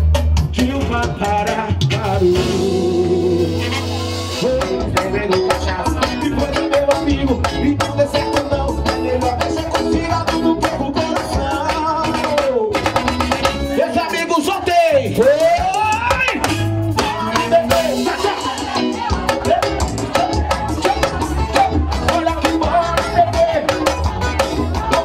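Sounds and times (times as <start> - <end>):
drum kit and percussion: 0.0 - 25.0
man singing: 0.0 - 25.0.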